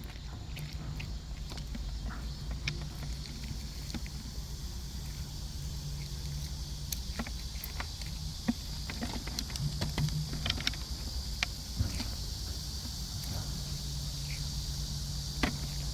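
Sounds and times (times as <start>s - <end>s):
small clicks and crackles: 0.0s - 14.6s
insects droning: 0.0s - 15.9s
low steady hum: 0.0s - 15.9s.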